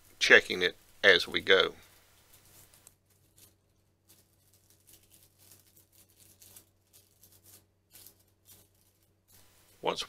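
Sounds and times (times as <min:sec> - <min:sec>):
paper rustling and crinkling: 0:00.0 - 0:10.0.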